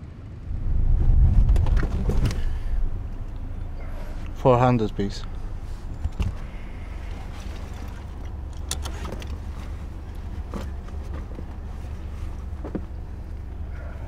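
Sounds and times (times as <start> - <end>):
car engine idling: 0.4 - 14.0.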